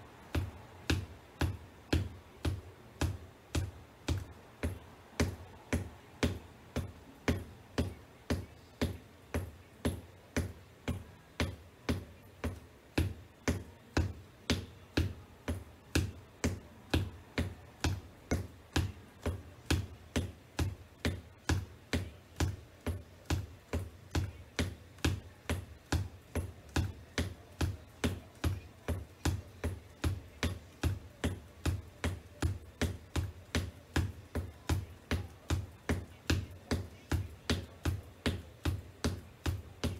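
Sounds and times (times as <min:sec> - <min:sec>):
shoes tapping on wooden floor: 0:00.0 - 0:39.9.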